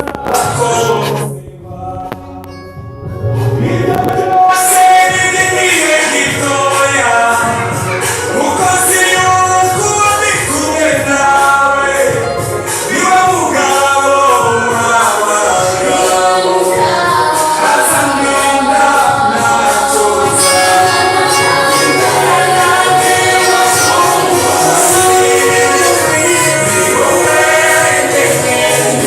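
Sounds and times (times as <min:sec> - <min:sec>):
musical accompaniment: 0:00.0 - 0:29.0
church choir singing: 0:03.6 - 0:29.0.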